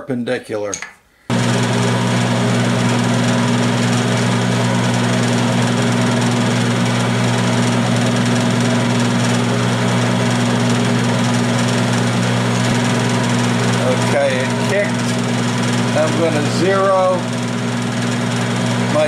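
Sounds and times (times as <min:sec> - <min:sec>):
milling machine motor hum: 0:01.3 - 0:19.0.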